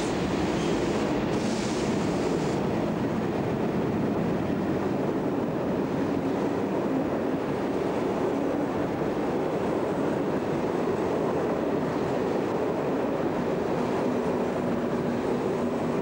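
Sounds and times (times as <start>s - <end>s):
diesel locomotives passing: 0.0s - 16.0s.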